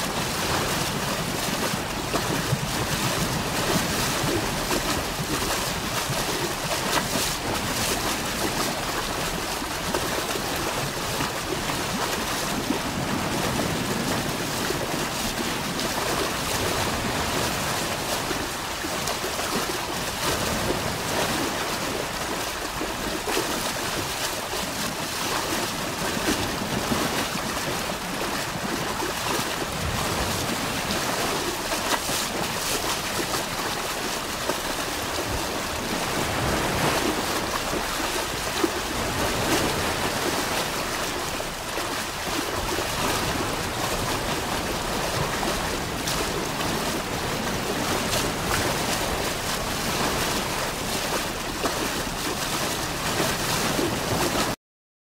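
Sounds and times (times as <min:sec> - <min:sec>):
waterfall and rapids rushing: 0:00.0 - 0:54.6.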